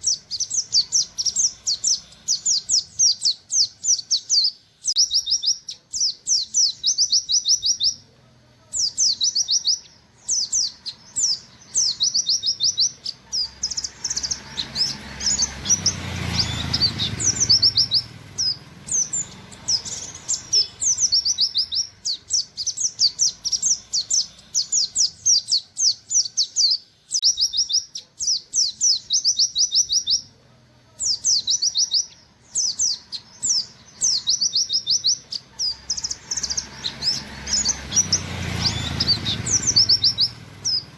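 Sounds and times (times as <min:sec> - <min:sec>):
bird singing rapid high notes: 0:00.0 - 0:08.1, 0:08.7 - 0:30.4, 0:31.0 - 0:40.9.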